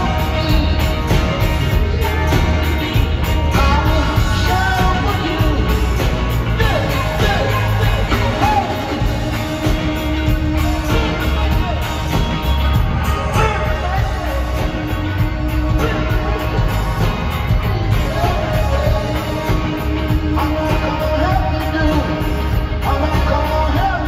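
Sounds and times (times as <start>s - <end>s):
live rock band playing: 0.0s - 24.0s
man singing lead vocals: 0.0s - 24.0s.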